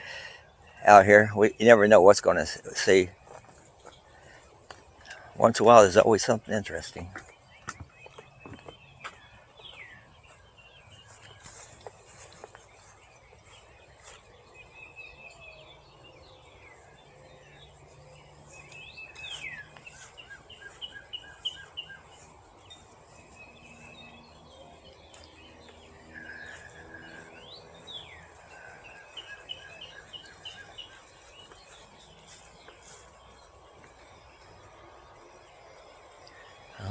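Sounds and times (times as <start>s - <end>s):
birds singing and calling: 0.0s - 36.9s
faint outdoor background noise: 0.0s - 36.9s.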